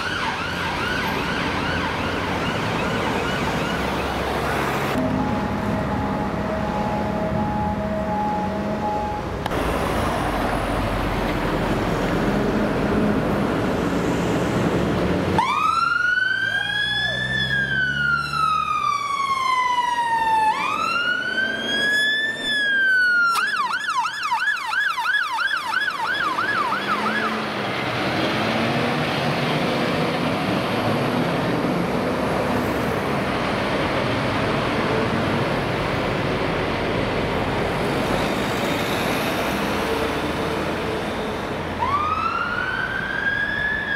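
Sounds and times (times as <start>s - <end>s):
fire engine siren: 0.0s - 13.4s, 15.3s - 43.9s
road and engine noise: 0.0s - 43.9s.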